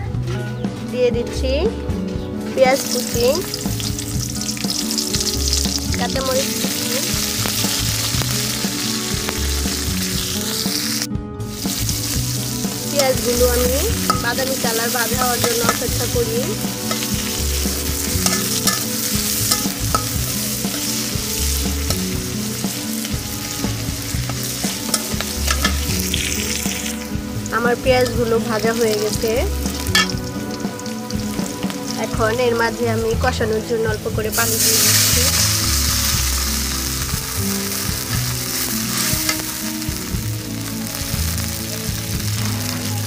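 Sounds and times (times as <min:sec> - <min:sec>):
onions sizzling in hot oil: 0:02.6 - 0:43.0.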